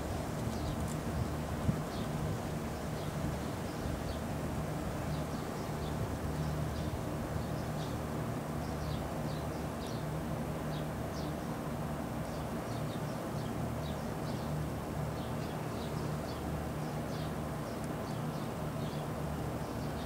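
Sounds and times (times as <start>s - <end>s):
small birds chirping: 0.4s - 4.3s, 5.0s - 20.0s.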